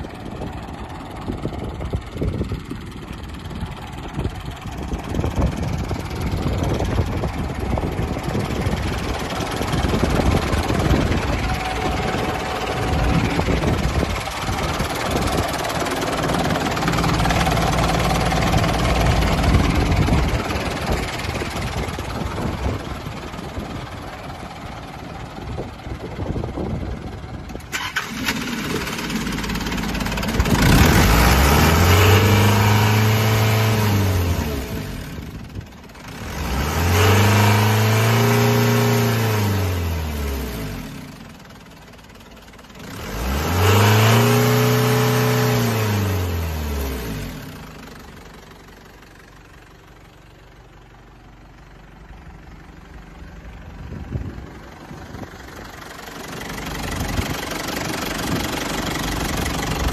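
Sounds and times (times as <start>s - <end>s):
diesel engine idling and revving: 0.0s - 59.9s.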